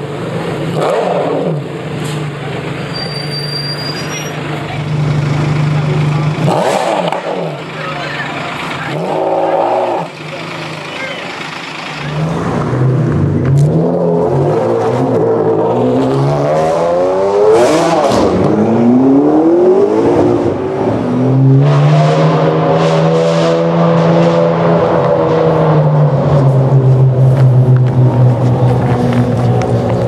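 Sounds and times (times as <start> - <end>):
sports car engine accelerating: 0.1 - 2.8, 4.5 - 30.0.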